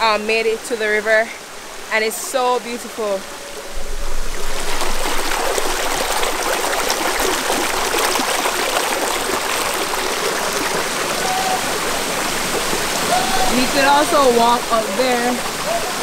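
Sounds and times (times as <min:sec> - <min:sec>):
river rushing over stones: 0:00.0 - 0:16.0.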